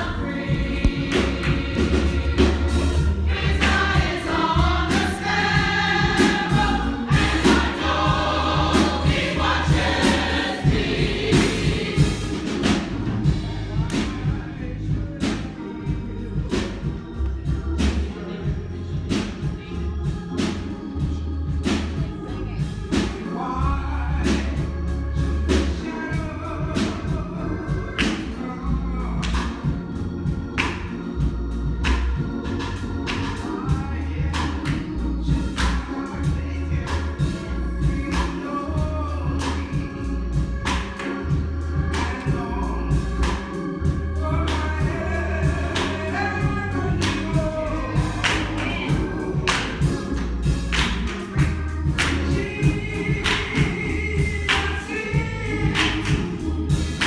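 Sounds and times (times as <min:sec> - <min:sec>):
sharp drum beat: 0:00.0 - 0:23.3, 0:33.1 - 0:57.0
band with bass line: 0:00.0 - 0:57.0
congregation singing: 0:00.0 - 0:57.0.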